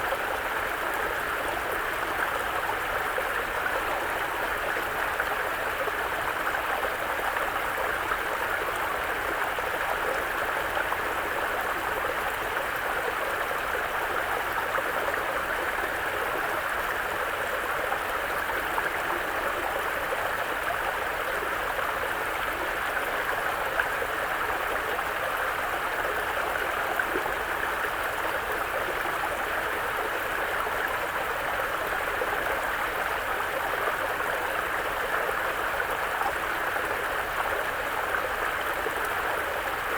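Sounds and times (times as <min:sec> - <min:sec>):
brook flowing over rocks: 0:00.0 - 0:39.9.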